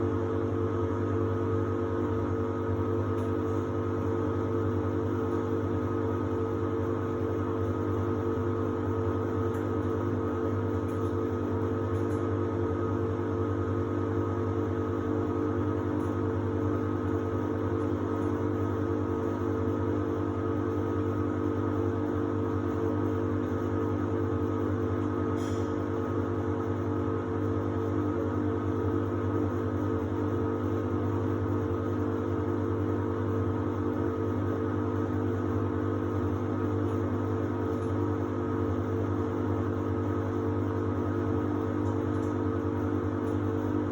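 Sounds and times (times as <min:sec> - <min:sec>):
washer-dryer motor hum: 0:00.0 - 0:43.9.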